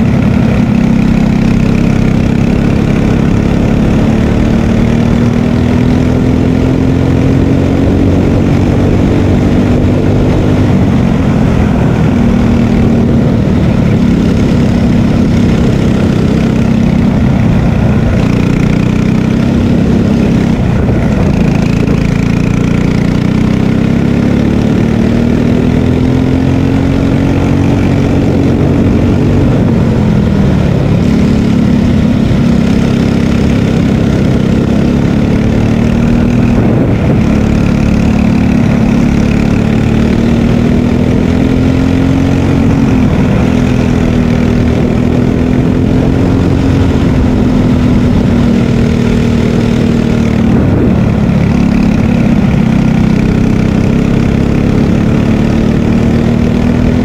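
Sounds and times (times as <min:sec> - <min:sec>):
racing kart engine revving: 0:00.0 - 0:57.0.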